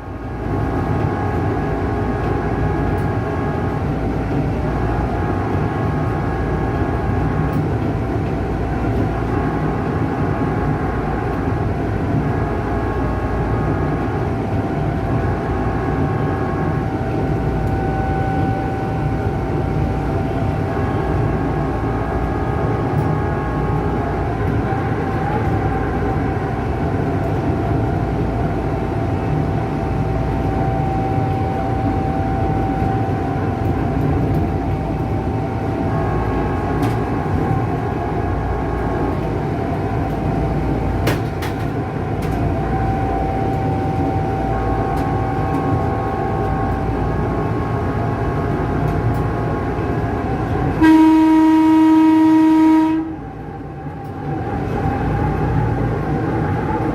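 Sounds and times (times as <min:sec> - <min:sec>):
electric train horn: 0:00.0 - 0:56.9
humming tone: 0:00.0 - 0:56.9
train running rumble: 0:00.0 - 0:56.9.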